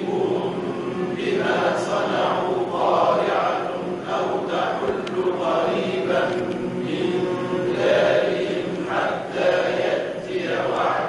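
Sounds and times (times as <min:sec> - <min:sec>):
group chanting in unison: 0:00.0 - 0:11.0.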